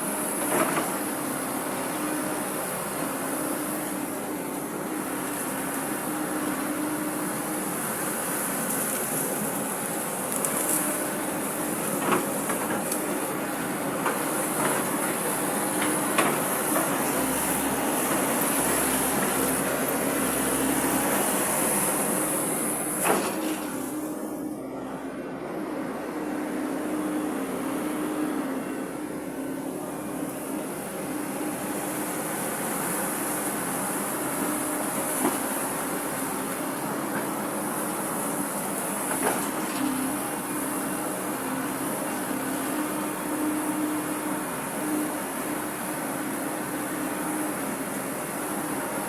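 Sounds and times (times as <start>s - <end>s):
excavator engine humming: 0.0s - 49.0s.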